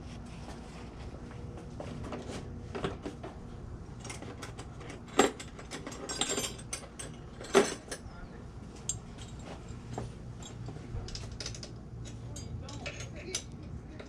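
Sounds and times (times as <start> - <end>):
light clicks and rattles of parts: 1.5 - 14.0.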